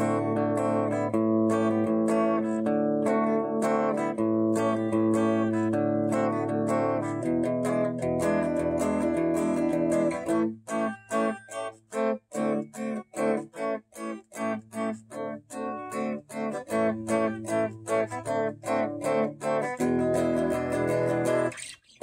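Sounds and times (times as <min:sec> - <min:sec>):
electric guitar chord strumming: 0:00.0 - 0:21.5.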